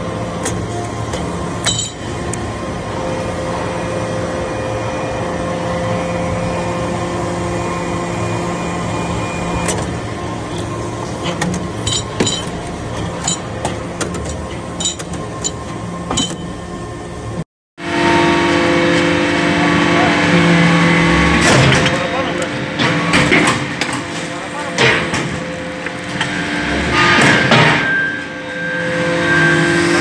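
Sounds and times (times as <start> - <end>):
hydraulic press humming and whining: 0.0 - 30.0.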